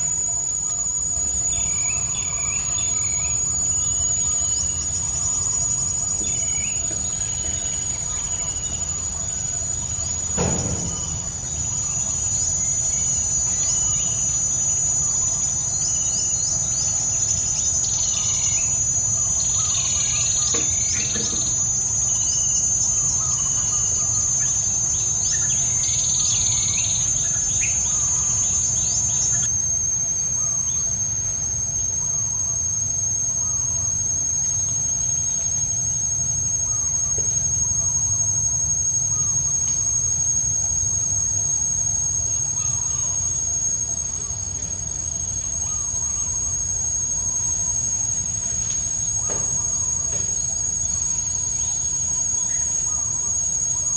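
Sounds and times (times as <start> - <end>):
high-pitched insect drone: 0.0 - 53.9.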